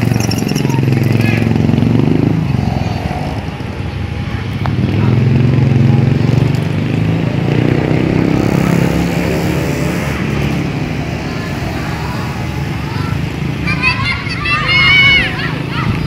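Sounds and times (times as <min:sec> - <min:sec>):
people's voices: 0:00.0 - 0:06.5, 0:08.6 - 0:16.0
small motorcycle engines: 0:00.0 - 0:16.0.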